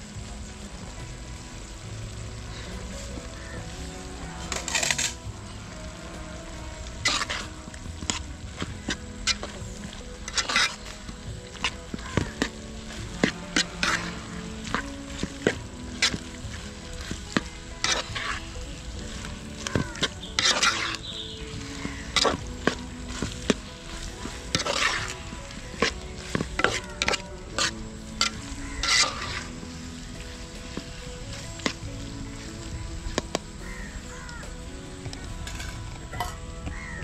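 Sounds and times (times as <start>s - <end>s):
food sizzling in oil: 0.0s - 37.0s.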